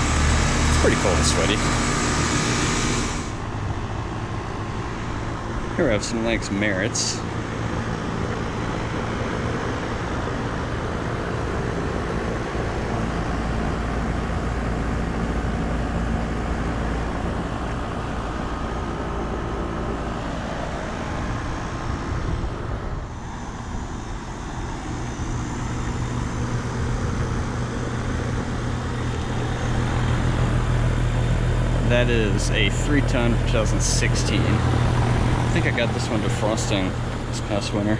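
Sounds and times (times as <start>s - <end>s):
compressor hum: 0.0s - 37.9s
condenser fans whooshing: 0.0s - 37.9s.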